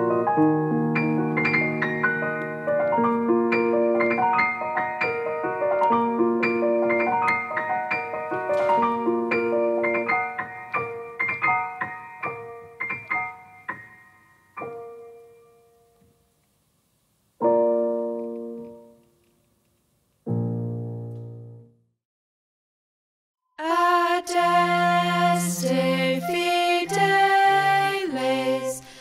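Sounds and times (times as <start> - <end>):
piano playing: 0.0 - 16.2, 17.4 - 19.2, 20.2 - 22.0, 23.6 - 29.0.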